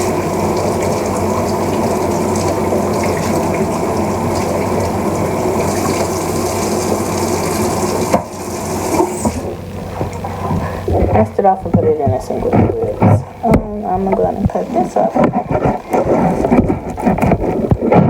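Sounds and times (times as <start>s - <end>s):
kitchen tap running: 0.0s - 18.0s.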